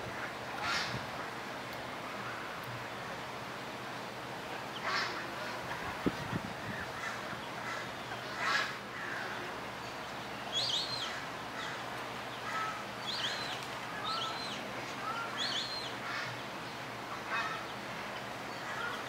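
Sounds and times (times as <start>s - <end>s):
steady background hiss: 0.0s - 19.0s
birds chirping: 2.2s - 19.0s.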